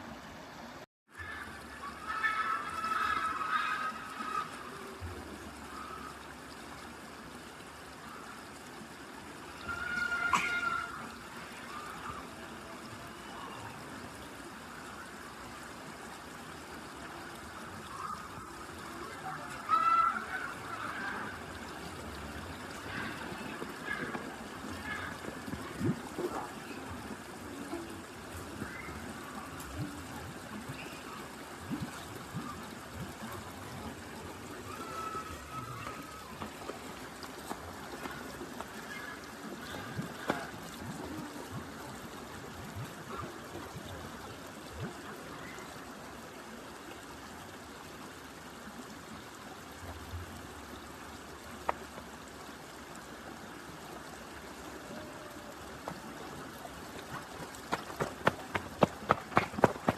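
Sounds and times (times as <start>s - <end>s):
running water trickling: 0.0s - 59.9s.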